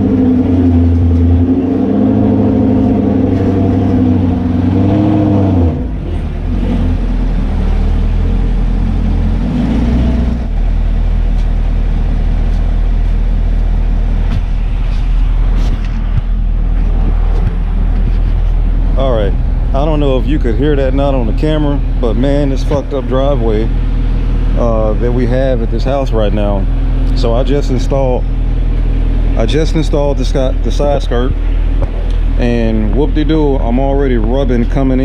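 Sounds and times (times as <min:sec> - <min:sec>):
car engine revving and idling: 0:00.0 - 0:35.0.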